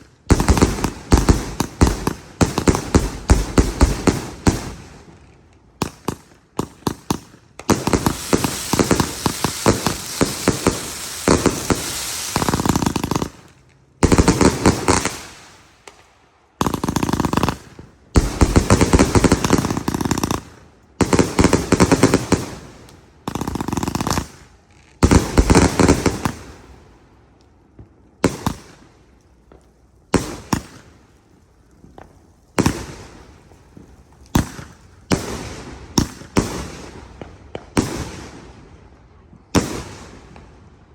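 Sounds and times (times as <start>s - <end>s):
firework cracking bangs: 0.0s - 26.8s, 27.7s - 38.5s.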